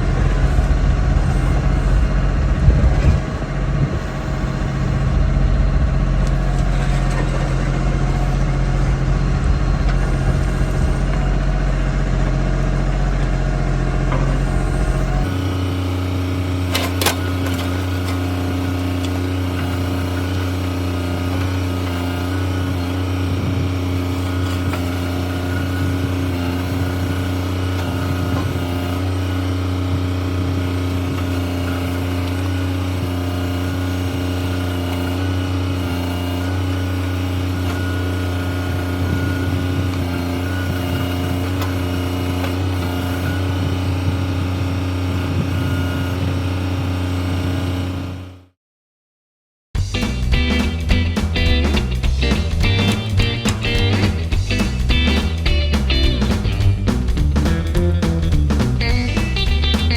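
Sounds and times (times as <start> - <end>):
tractor diesel engine running: 0.0 - 48.5, 49.8 - 59.9.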